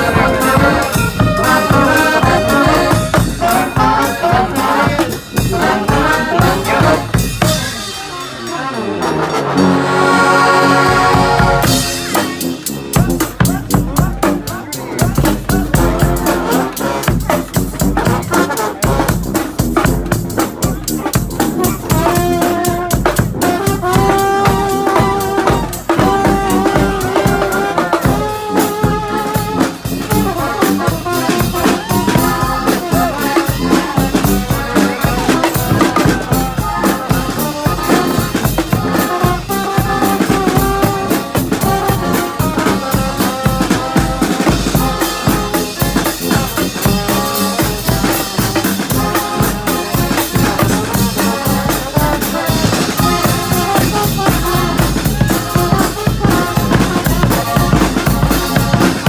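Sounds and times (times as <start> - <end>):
drum kit beat: 0.0 - 8.7, 10.1 - 59.0
brass marching band playing: 0.0 - 59.0.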